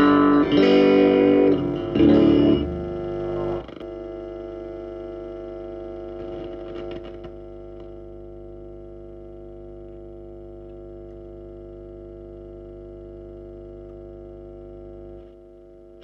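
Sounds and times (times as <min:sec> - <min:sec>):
guitar amplifier mains hum: 0:00.0 - 0:16.0.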